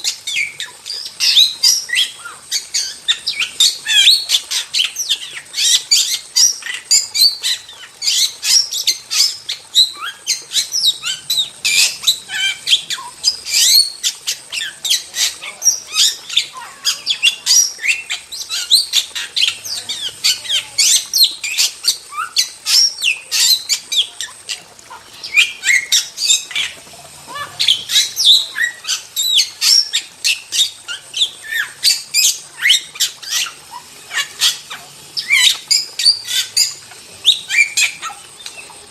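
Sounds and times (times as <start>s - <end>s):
starling chattering: 0.0s - 38.9s.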